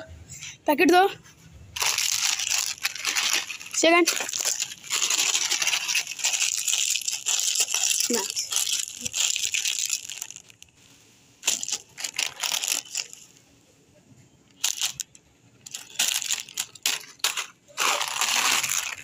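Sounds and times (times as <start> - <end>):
plastic packet crinkling: 1.8 - 10.8, 11.4 - 13.3, 14.6 - 19.0.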